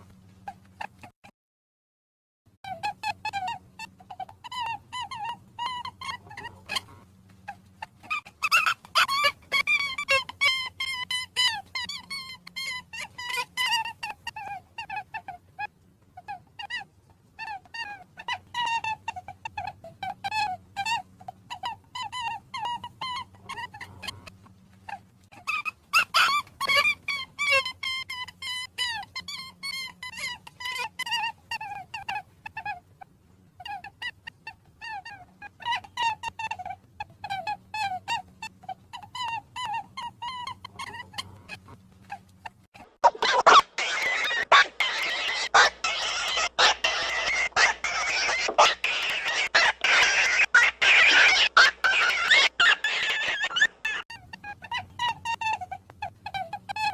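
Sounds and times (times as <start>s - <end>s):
rabbits squeaking: 2.6s - 56.9s.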